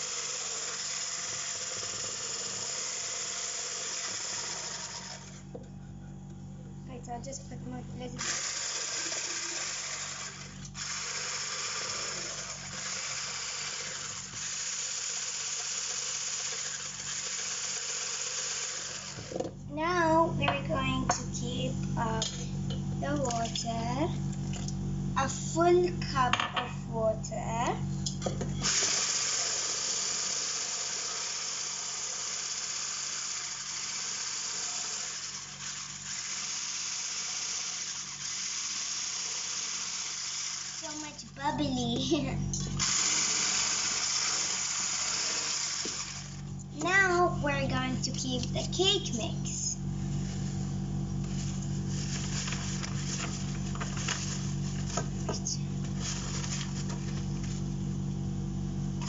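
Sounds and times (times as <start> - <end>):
electric mixer whisking: 0.0 - 5.6, 8.0 - 22.3, 28.6 - 58.1.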